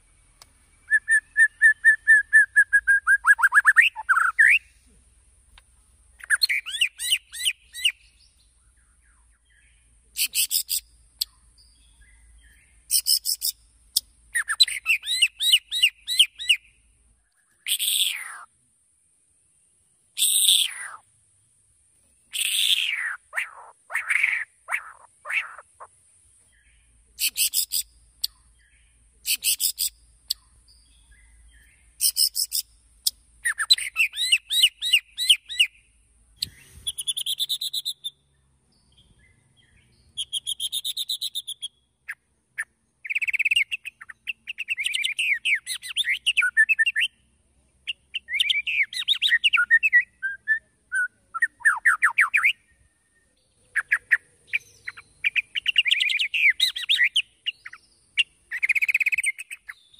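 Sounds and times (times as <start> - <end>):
bird singing trills and whistles: 0.0 - 4.8, 6.2 - 18.5, 20.2 - 21.0, 22.2 - 25.8, 26.5 - 47.2, 47.9 - 59.9.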